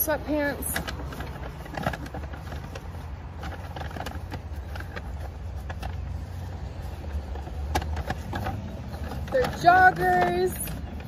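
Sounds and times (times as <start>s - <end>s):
faint clicks and rustles: 0.0s - 11.0s
low outdoor rumble: 0.0s - 11.0s.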